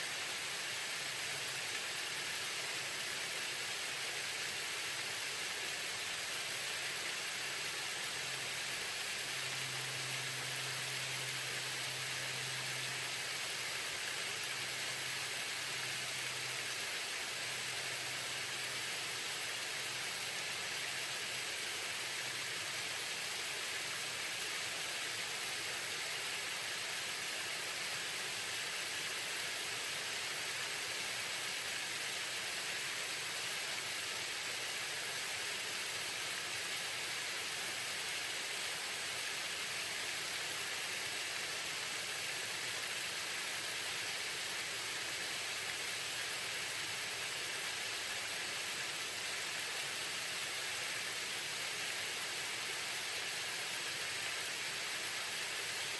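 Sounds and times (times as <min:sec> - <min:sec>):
waterfall hiss: 0:00.0 - 0:55.9.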